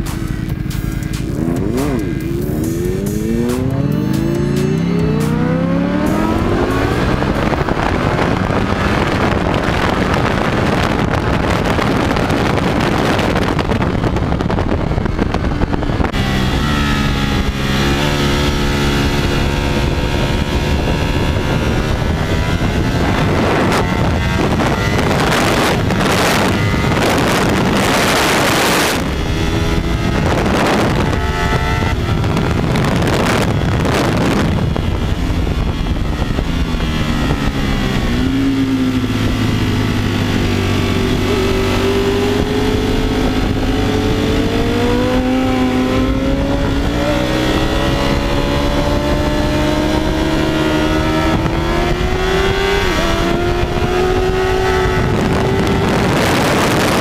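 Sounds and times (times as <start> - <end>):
motorcycle engine accelerating: 0.0 - 57.0
wind buffeting microphone: 0.0 - 57.0.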